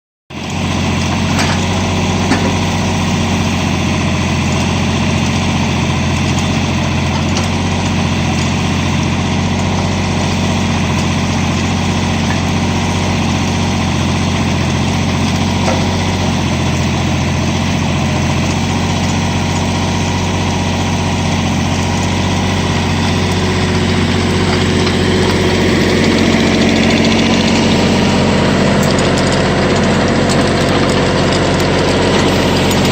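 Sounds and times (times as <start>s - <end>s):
tractor engine running: 0.3s - 32.9s.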